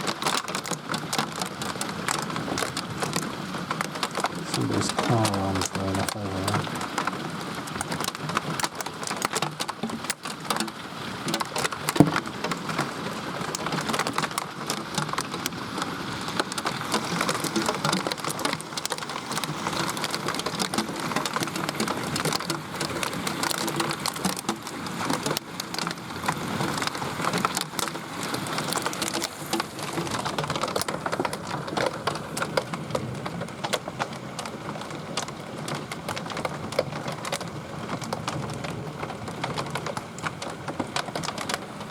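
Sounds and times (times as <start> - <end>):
heavy rain and hail: 0.0 - 41.9.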